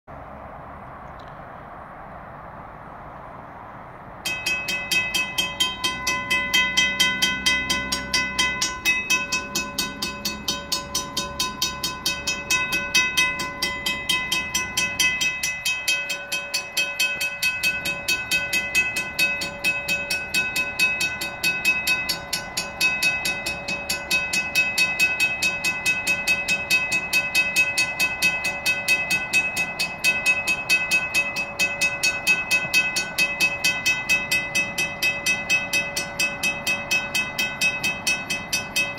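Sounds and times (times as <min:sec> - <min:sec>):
railroad crossing bell ringing: 0:04.2 - 0:38.9.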